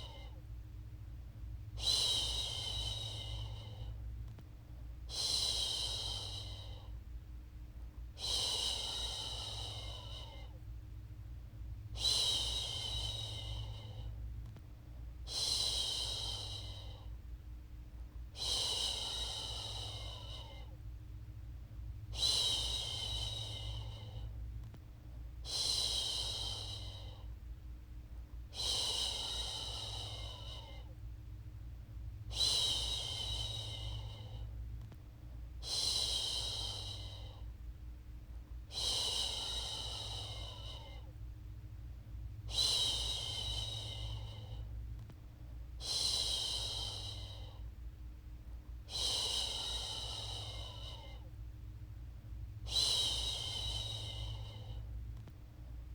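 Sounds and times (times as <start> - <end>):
faint low hum: 0.0 - 55.9.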